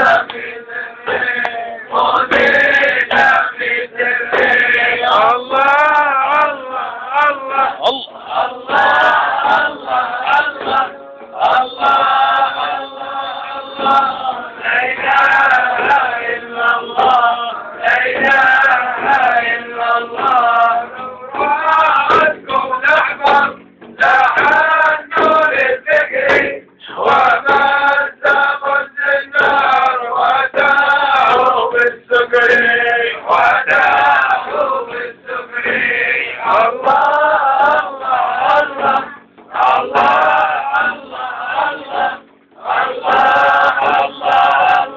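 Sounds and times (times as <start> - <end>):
frame drum beating: 0.0 - 44.9
men chanting together: 0.0 - 44.9.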